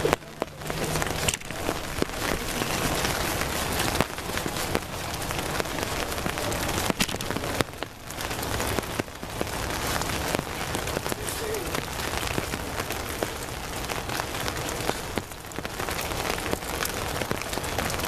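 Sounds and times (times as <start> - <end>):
drops ticking on umbrellas: 0.0 - 18.0
steady rain falling: 0.0 - 18.0.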